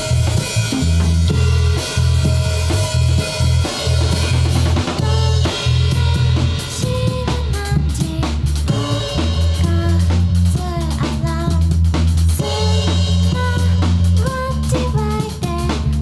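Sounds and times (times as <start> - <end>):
drum kit: 0.0 - 16.0
sustained bass line: 0.0 - 16.0.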